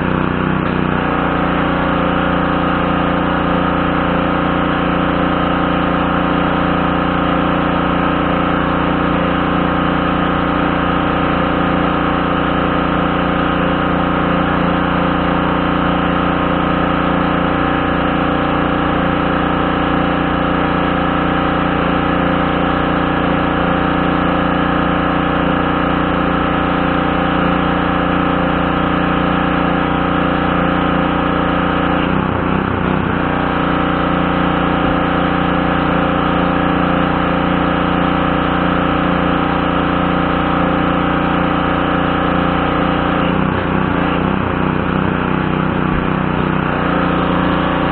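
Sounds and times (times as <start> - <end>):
pressure washer engine running: 0.0 - 47.9.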